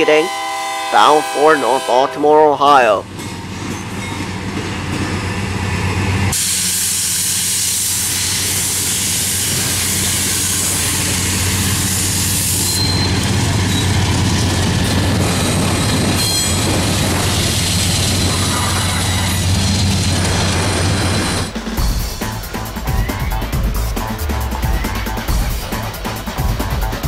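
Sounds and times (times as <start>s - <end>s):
diesel locomotive engine drone: 0.0s - 27.0s
train rolling past: 0.0s - 27.0s.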